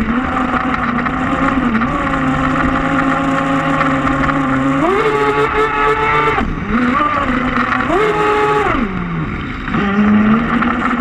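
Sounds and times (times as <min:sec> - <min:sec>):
electric motor whining: 0:00.0 - 0:11.0
water rushing along hull: 0:00.0 - 0:11.0.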